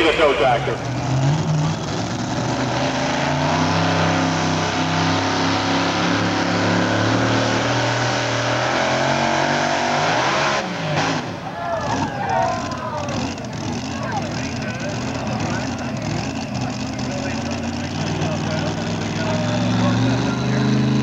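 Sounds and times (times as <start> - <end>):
tractor engine revving hard: 0.0 - 21.0.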